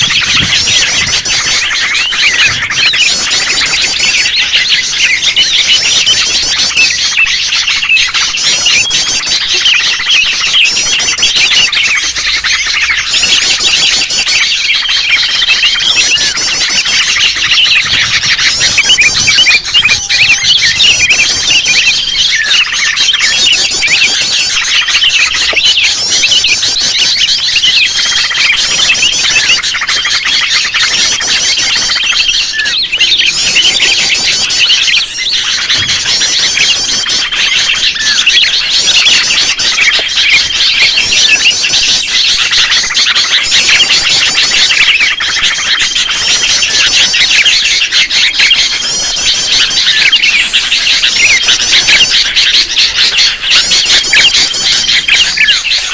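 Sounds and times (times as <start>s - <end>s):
bulbul birds calling: 0.0s - 55.9s.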